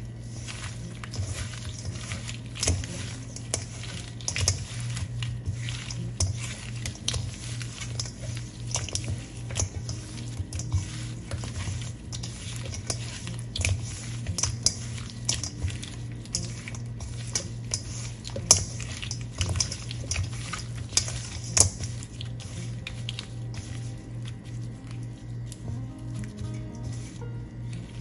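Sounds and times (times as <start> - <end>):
shrimp shells scraping metal bowl: 0.0 - 28.0.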